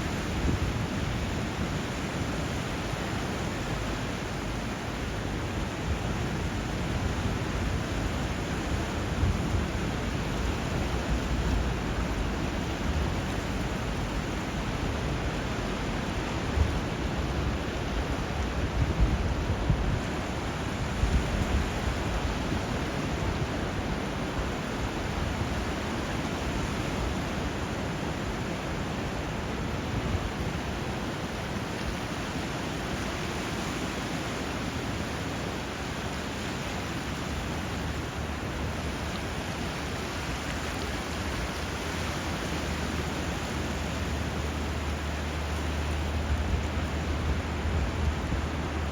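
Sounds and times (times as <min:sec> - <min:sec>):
flowing water and surf: 0:00.0 - 0:48.9.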